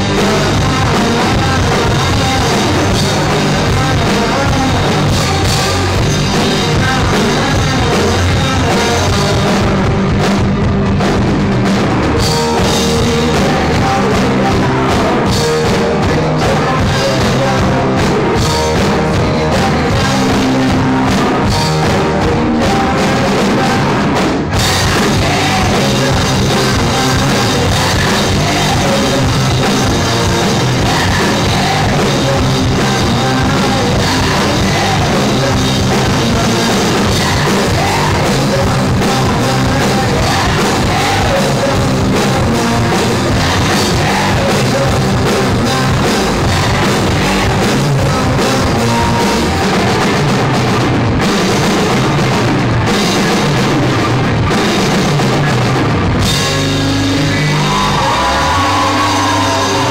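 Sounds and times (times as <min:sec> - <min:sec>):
person singing: 0:00.0 - 0:11.1, 0:11.8 - 0:59.9
bass guitar: 0:00.0 - 0:59.9
drum kit: 0:00.0 - 0:59.9
electric guitar: 0:00.0 - 0:59.9.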